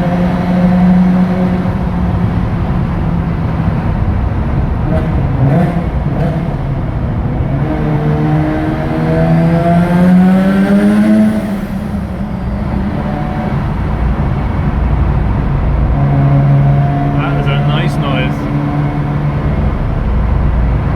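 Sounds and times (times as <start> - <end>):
rotary engine accelerating: 0.0 - 20.9.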